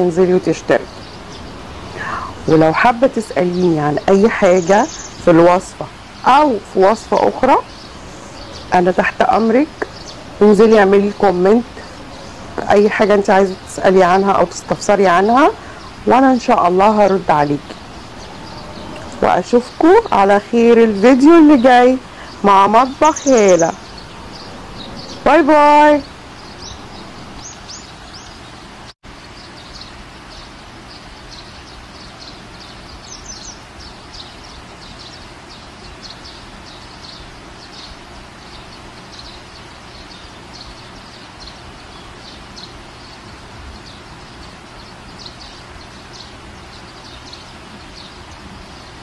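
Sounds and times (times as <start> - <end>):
background hiss: 0.0 - 49.0
small birds chirping: 0.0 - 49.0.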